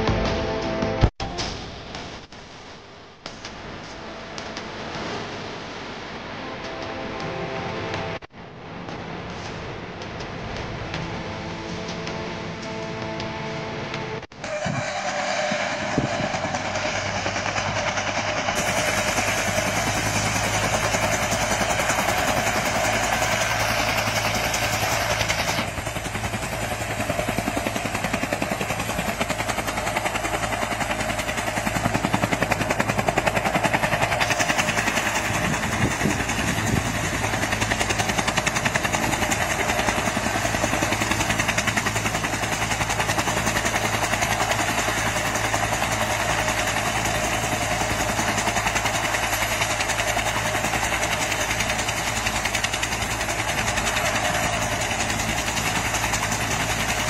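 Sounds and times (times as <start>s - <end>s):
helicopter rotor beating: 8.8s - 57.0s
helicopter engine whining: 9.0s - 57.0s.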